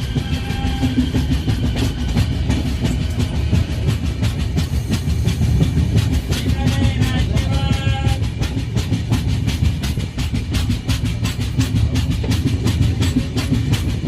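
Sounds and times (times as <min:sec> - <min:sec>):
train rumbling: 0:00.0 - 0:14.0
wheels clattering on rails: 0:00.0 - 0:14.0.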